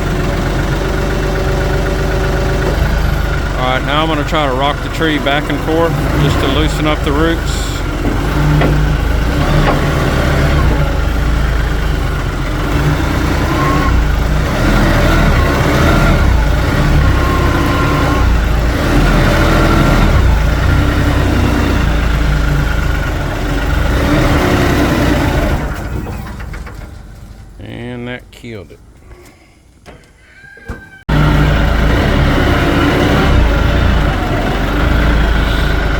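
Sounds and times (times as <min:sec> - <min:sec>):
tractor diesel engine working hard: 0:00.0 - 0:28.0, 0:31.1 - 0:35.9.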